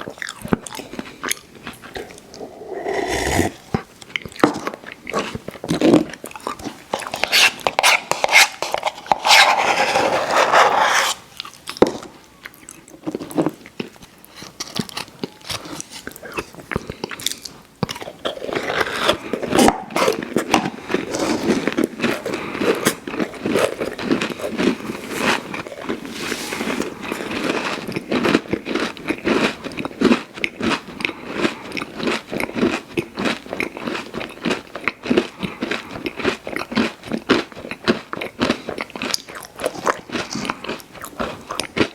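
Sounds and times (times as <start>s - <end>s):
crunchy chewing: 0.0s - 11.8s, 12.4s - 41.9s.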